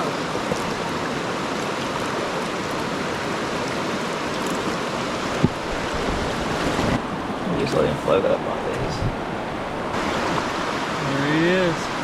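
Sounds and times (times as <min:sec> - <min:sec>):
mountain stream flowing: 0:00.0 - 0:12.0.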